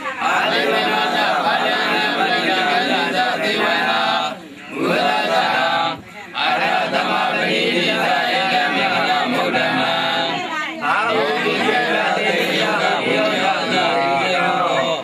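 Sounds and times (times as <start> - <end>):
monks chanting in unison: 0.2 - 15.0.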